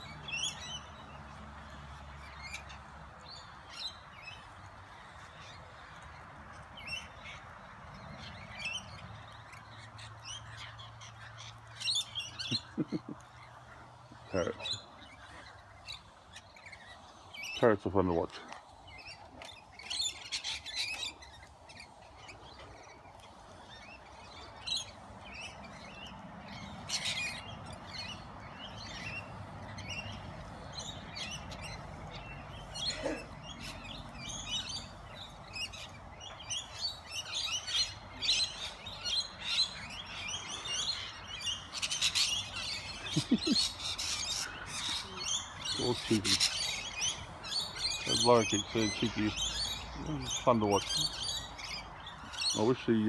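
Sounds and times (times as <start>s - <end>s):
parrots chirping and chattering: 0.0s - 53.0s.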